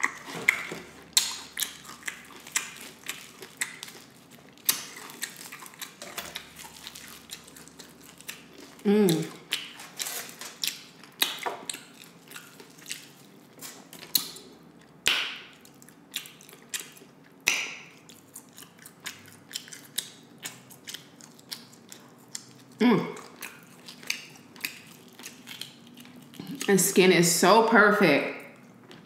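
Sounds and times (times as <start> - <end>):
chewing crispy fried chicken: 0.0 - 27.0.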